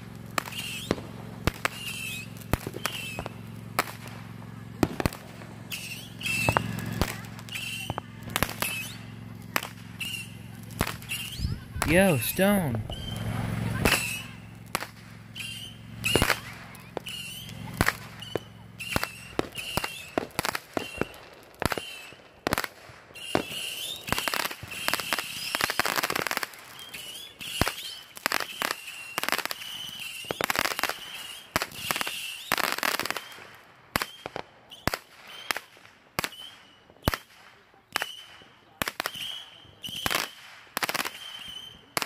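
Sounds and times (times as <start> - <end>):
firework rockets whistling and popping: 0.0 - 42.0.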